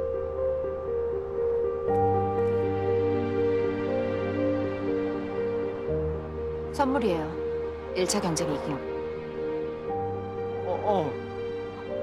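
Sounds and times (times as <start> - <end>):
soft gentle drama score: 0.0 - 12.0.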